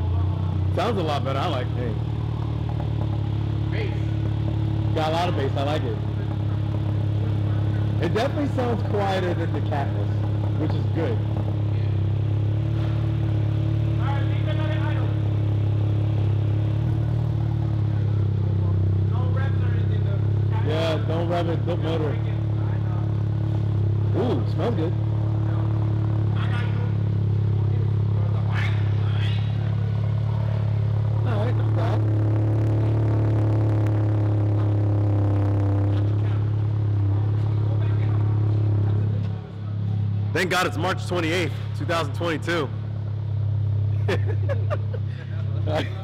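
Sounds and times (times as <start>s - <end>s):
car engine idling with deep drone: 0.0s - 46.0s.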